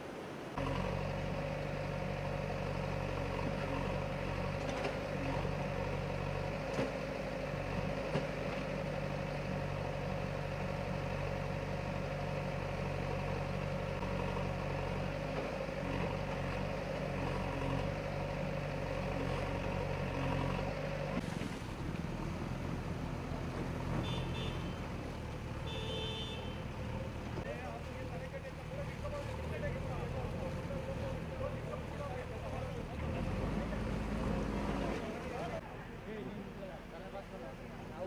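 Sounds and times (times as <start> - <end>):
diesel engine idling: 0.6 - 38.0.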